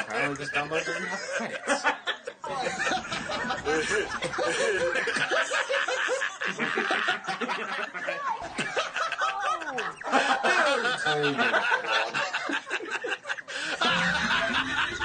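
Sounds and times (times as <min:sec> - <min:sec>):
men laughing: 0:00.0 - 0:15.0.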